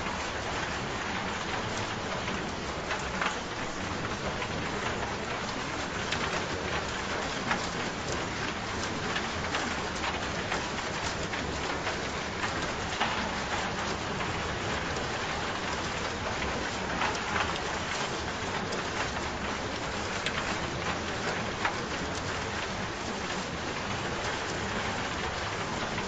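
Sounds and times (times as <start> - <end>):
raindrops ticking on a surface: 0.0 - 26.0
steady rain hiss: 0.0 - 26.0.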